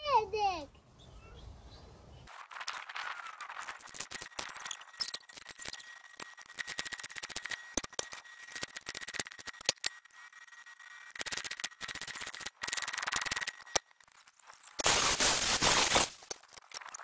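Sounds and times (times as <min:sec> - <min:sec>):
welding arc crackling: 0:02.3 - 0:17.0.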